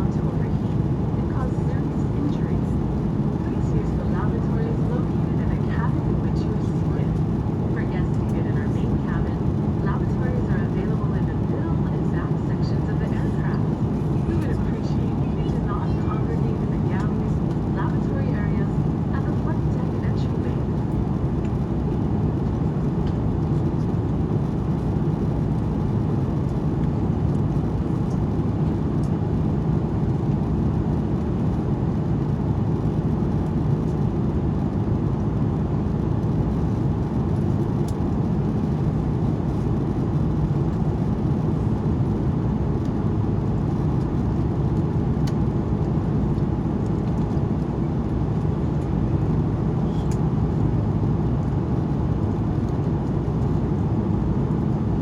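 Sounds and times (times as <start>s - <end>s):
aircraft cabin engine rush: 0.0s - 55.0s
low hum: 0.0s - 55.0s.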